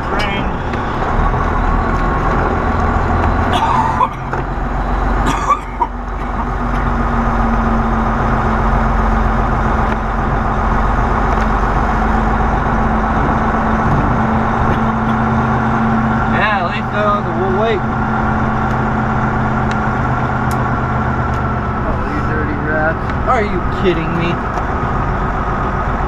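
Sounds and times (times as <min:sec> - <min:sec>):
truck diesel engine humming: 0:00.0 - 0:26.0.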